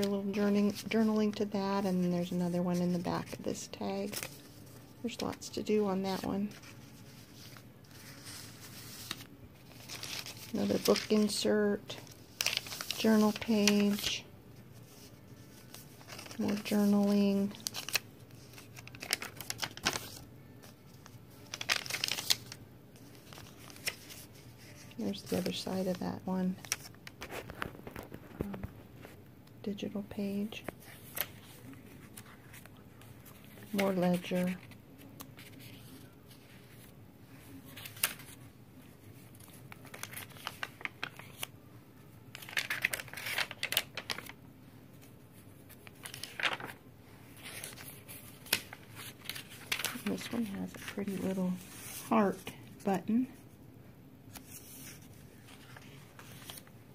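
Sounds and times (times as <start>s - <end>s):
paper pages rustling: 0.0s - 29.3s, 30.3s - 41.6s, 42.3s - 52.5s, 54.3s - 56.8s.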